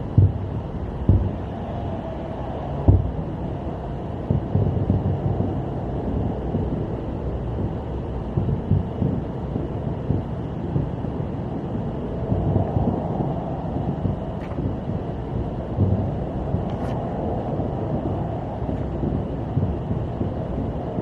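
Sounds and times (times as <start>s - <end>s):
traffic rumble from inside car: 0.0s - 21.0s.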